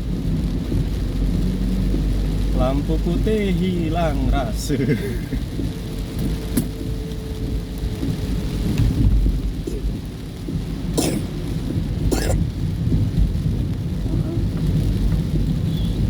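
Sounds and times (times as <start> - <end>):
deep thunder rumble: 0.0 - 16.0
heavy rain: 0.0 - 16.0.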